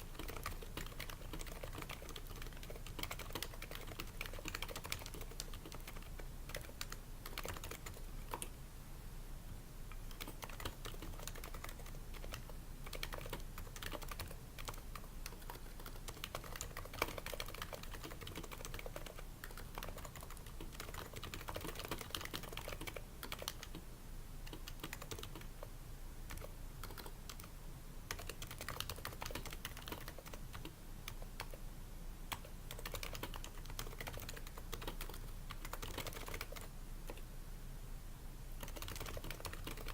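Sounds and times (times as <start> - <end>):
keyboard typing: 0.0 - 8.5, 9.9 - 31.6, 32.3 - 37.2, 38.6 - 39.9.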